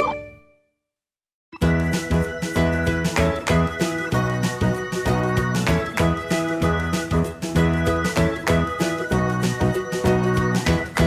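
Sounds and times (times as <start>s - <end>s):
instrumental music with steady beat: 1.6s - 11.0s.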